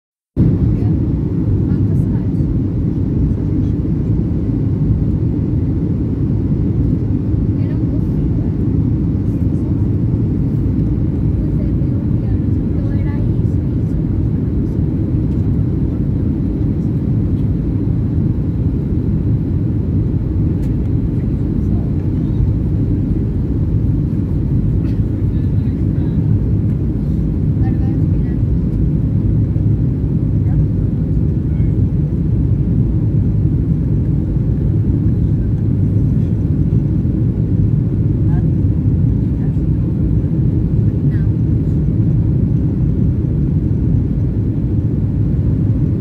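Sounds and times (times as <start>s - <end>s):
aircraft cabin engine rumble: 0.4s - 46.0s
airflow: 0.4s - 46.0s.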